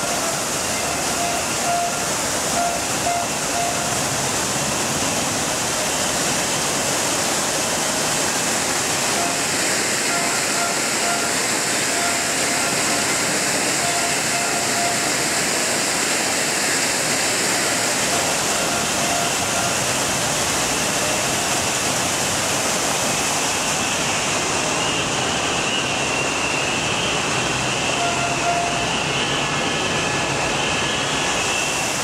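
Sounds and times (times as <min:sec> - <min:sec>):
fountain water rushing: 0:00.0 - 0:32.0.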